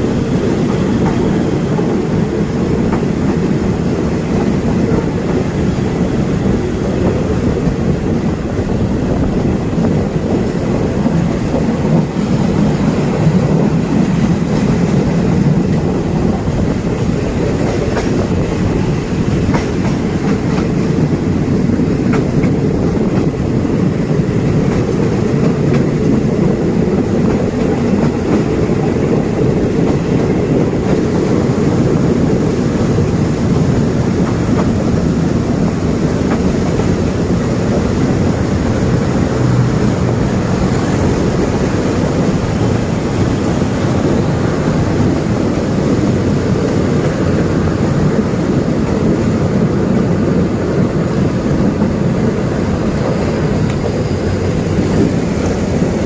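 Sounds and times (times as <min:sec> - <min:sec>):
clacking over rail joints: 0:00.0 - 0:49.7, 0:50.4 - 0:56.0
train wheels rumbling on rail: 0:00.0 - 0:56.0.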